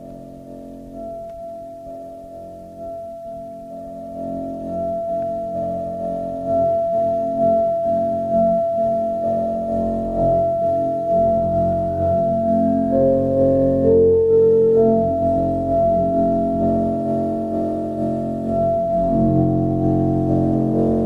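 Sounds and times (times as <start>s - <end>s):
steady held synth tone: 0.0s - 21.0s.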